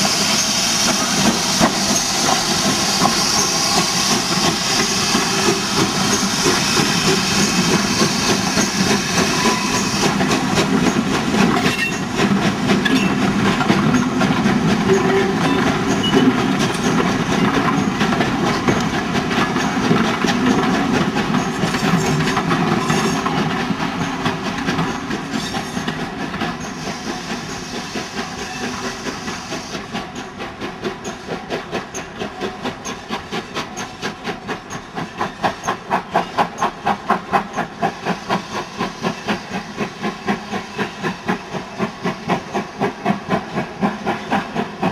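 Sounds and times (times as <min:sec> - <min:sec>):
hiss of steam: 0:00.0 - 0:44.9
steam locomotive working hard: 0:00.0 - 0:44.9.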